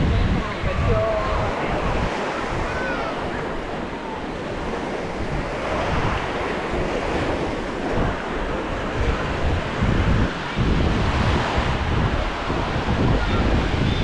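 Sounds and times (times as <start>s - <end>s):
small waves breaking on shore: 0.0s - 14.0s
wind buffeting microphone: 0.0s - 14.0s.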